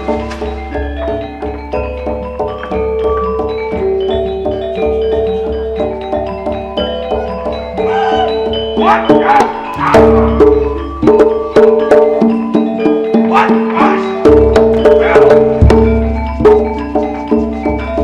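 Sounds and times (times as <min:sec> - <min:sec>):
gamelan playing: 0:00.0 - 0:18.0.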